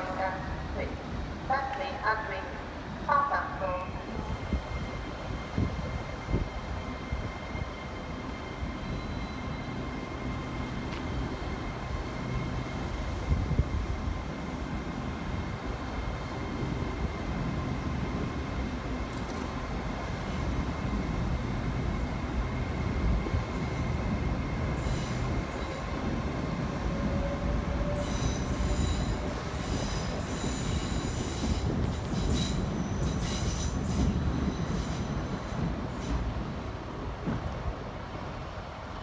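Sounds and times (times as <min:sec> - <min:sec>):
train rumbling: 0:00.0 - 0:39.0.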